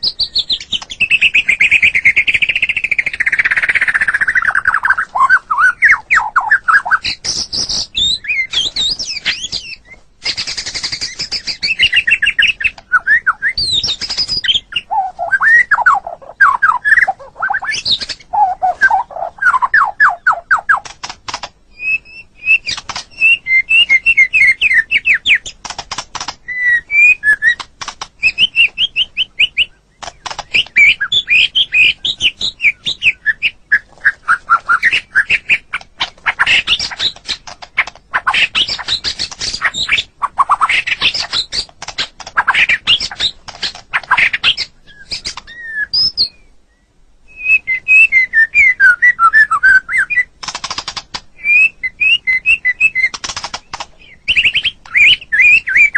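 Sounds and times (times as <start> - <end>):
bird singing whistled song: 0.0 - 20.9, 21.7 - 25.6, 26.4 - 41.7, 42.4 - 50.3, 51.4 - 55.9.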